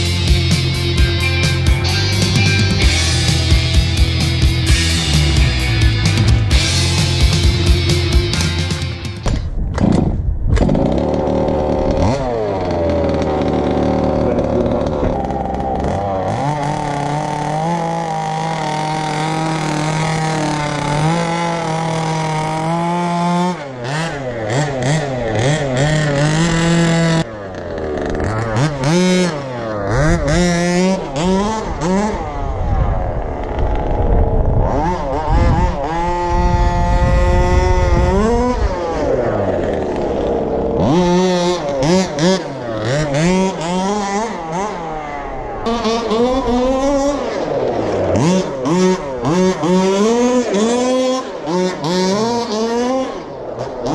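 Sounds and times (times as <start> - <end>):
small two-stroke engine revving: 0.0 - 53.9.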